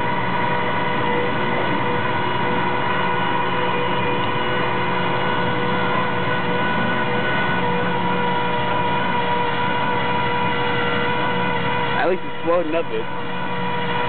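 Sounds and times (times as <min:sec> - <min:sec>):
hydraulic winch whine: 0:00.0 - 0:14.0
truck engine drone: 0:00.0 - 0:14.0.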